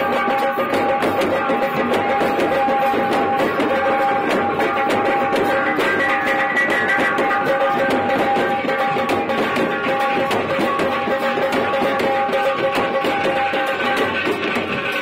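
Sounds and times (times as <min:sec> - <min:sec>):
drum band playing fast beat: 0:00.0 - 0:15.0
held melody line: 0:00.0 - 0:15.0.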